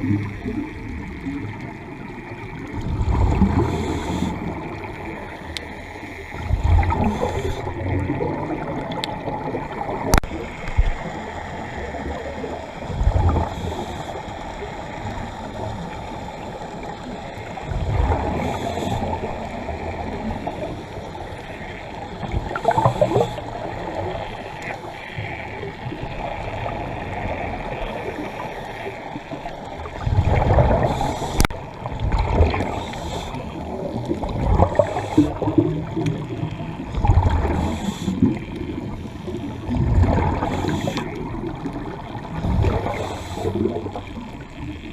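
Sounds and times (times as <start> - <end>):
muffled water noise: 0.0 - 44.9
underwater bubbles gurgling: 0.0 - 44.9.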